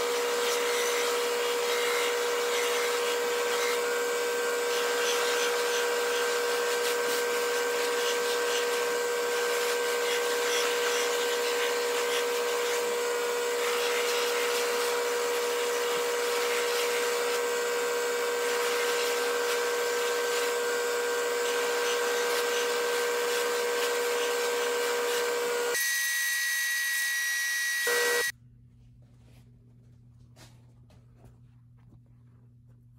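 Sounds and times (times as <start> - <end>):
buffing machine running: 0.0 - 26.7, 27.5 - 28.3.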